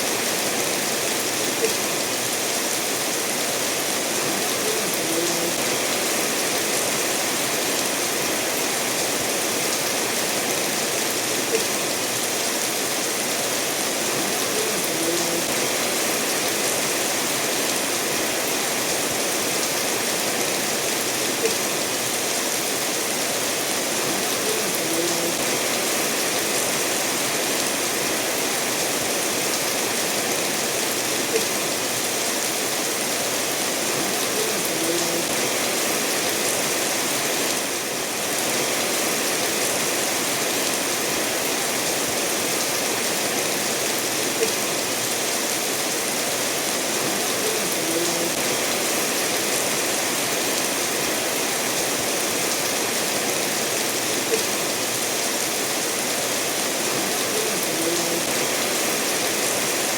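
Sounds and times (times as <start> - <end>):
steady rainfall: 0.0 - 59.9
stream running over stones: 0.0 - 59.9.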